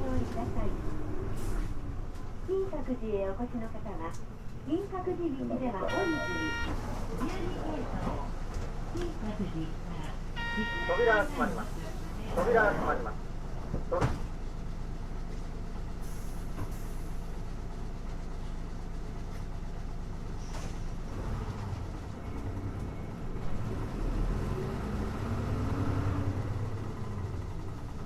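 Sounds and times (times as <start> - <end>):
bus diesel engine: 0.0 - 28.0.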